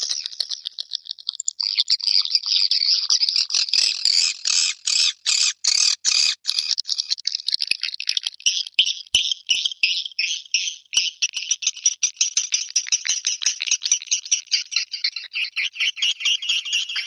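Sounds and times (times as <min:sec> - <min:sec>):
swiftlets twittering and chirping: 0:00.0 - 0:15.4.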